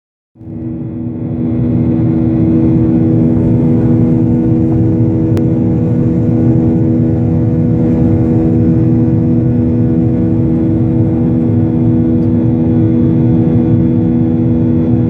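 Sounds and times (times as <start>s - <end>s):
airliner engines droning: 0.4s - 15.0s.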